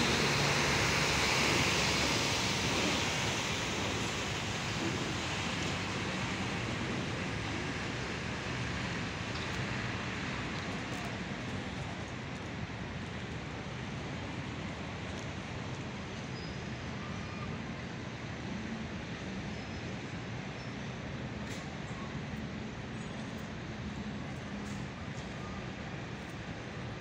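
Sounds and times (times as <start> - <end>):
buses and road traffic: 0.0 - 27.0.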